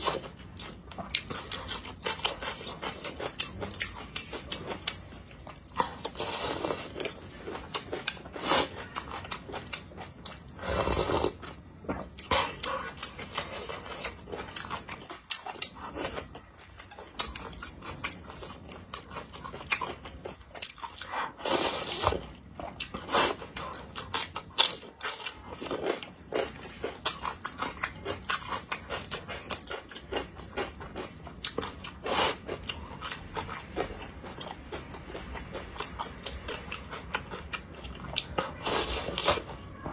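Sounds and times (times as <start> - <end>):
person chewing: 0.0 - 39.8.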